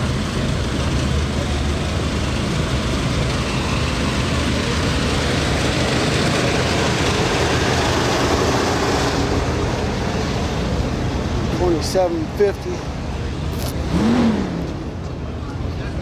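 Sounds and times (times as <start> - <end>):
engine idling hum: 0.0 - 16.0
outdoor noise: 0.0 - 16.0.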